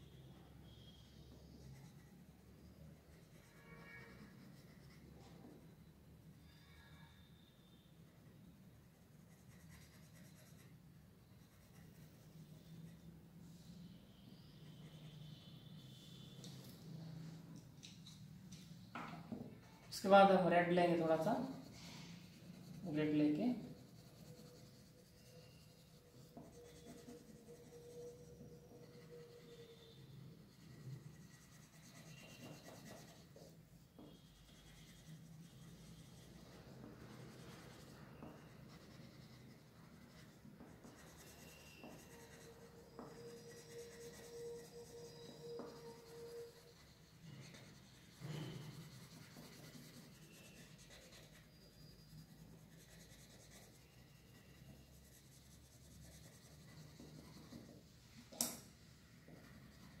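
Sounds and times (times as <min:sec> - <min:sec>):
faint steady tone: 0:00.0 - 1:00.0
pencil rubbing on paper: 0:00.7 - 0:05.4, 0:08.9 - 0:13.2, 0:19.6 - 0:58.0, 0:59.2 - 1:00.0.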